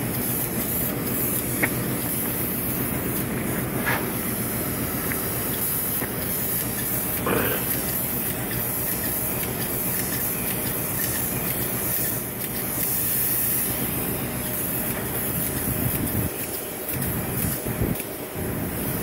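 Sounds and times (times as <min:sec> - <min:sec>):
spray rig machine drone: 0:00.0 - 0:19.0.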